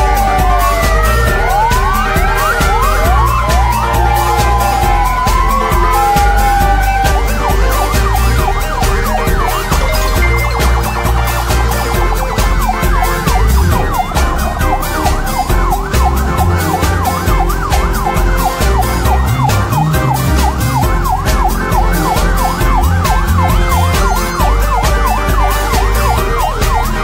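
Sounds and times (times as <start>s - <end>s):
emergency siren yelping: 0.0s - 27.0s
music with heavy bass beat: 0.0s - 27.0s.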